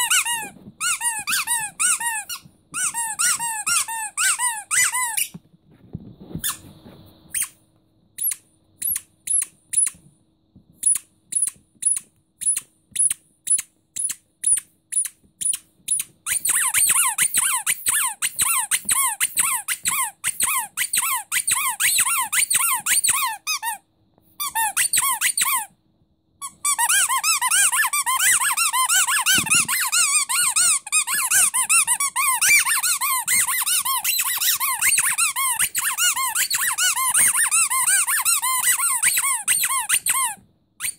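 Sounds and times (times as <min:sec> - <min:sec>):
squeaky toy squeaking: 0:00.0 - 0:05.4, 0:06.4 - 0:06.6, 0:07.3 - 0:07.6, 0:08.2 - 0:10.0, 0:10.8 - 0:23.8, 0:24.4 - 0:25.8, 0:26.4 - 0:40.9.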